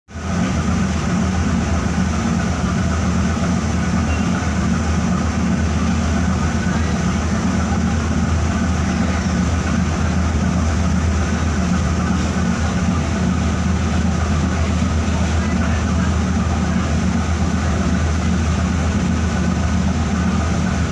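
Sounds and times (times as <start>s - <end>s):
ship engines droning: 0.1s - 20.9s.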